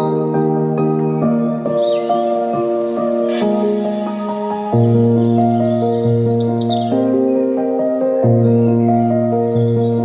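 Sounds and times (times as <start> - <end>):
music of held chords: 0.0 - 10.0
small birds chirping: 0.0 - 10.0.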